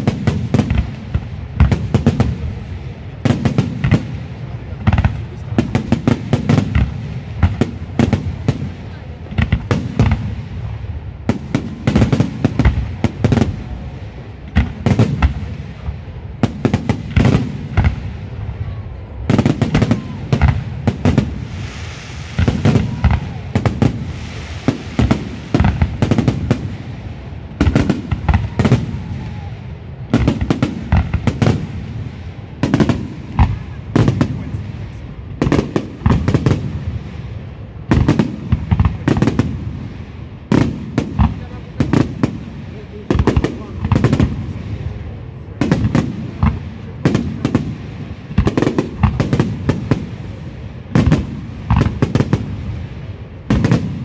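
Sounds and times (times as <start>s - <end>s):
fireworks bursting: 0.0s - 54.0s
fizzing crackle of fireworks: 0.0s - 54.0s.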